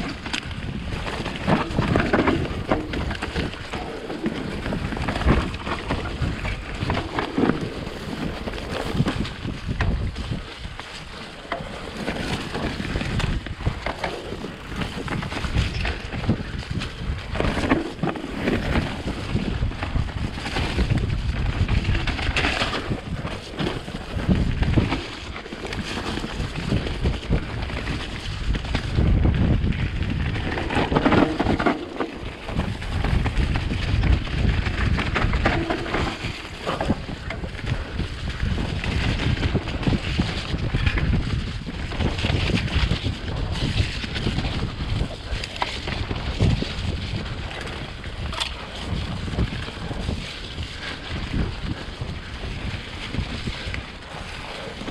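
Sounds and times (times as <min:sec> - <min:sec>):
bike knocking and rattling: 0:00.0 - 0:54.9
tyres rolling through mud: 0:00.0 - 0:54.9
wind on microphone: 0:00.0 - 0:54.9.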